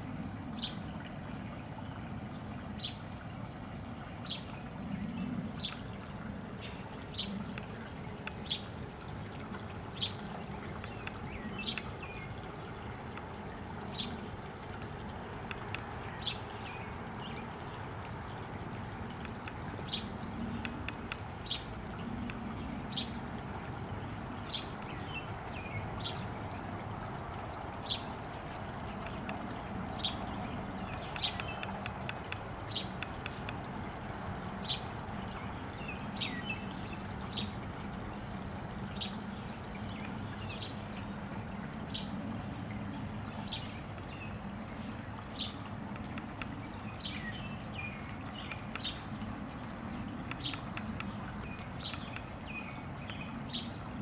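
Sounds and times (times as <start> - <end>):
running water rushing: 0.0 - 54.0
songbirds chirping: 0.0 - 54.0.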